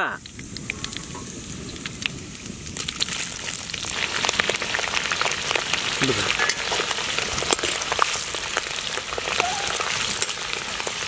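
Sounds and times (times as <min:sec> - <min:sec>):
chillies sizzling in hot oil: 0:00.0 - 0:11.0
oil popping and crackling: 0:00.0 - 0:11.0.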